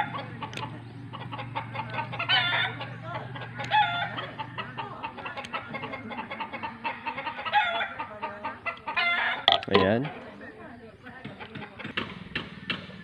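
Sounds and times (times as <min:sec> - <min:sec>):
chickens clucking: 0:00.0 - 0:10.6.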